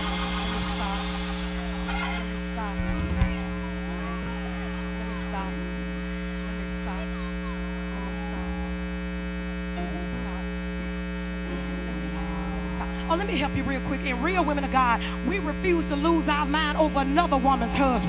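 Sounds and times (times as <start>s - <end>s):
faint crowd voices: 0.0s - 10.6s, 11.3s - 18.0s
electrical mains hum: 0.0s - 18.0s.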